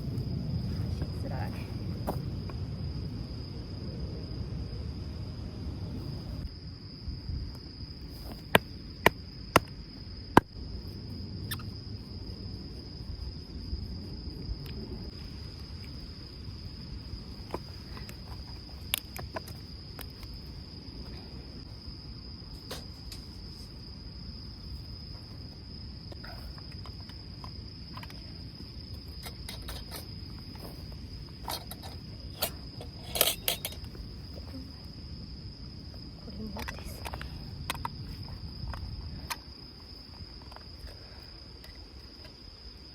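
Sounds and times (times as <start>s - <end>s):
crickets chirping: 0.0s - 42.9s
low rumble of wind: 0.0s - 42.9s.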